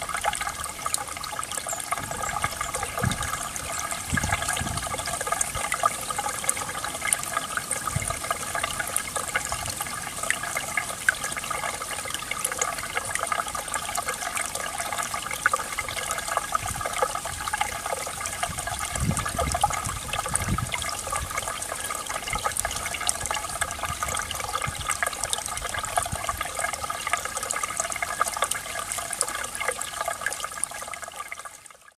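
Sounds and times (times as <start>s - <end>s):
stream babbling and trickling: 0.0s - 31.9s.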